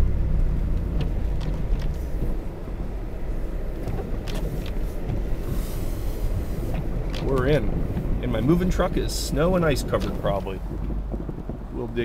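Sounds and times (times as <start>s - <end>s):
car engine rumbling: 0.0s - 12.0s
tyres crunching snow: 0.0s - 12.0s.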